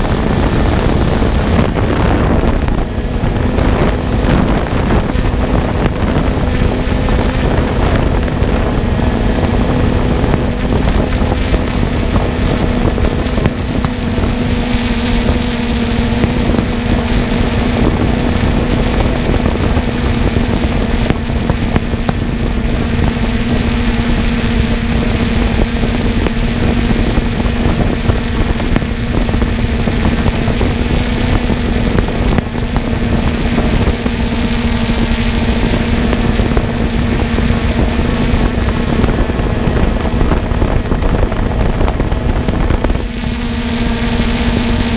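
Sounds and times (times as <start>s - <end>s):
drone propellers humming: 0.0s - 44.9s
rushing noise: 0.0s - 44.9s.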